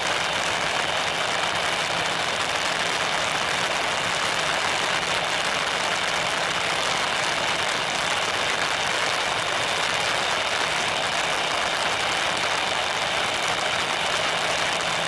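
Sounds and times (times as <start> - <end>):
heavy rain: 0.0 - 15.0
jet engines idling: 0.0 - 15.0.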